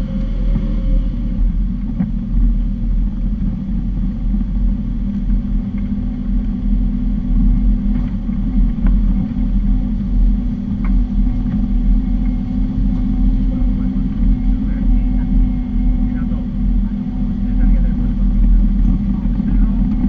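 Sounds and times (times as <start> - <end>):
engine and tyre rumble: 0.0 - 20.0.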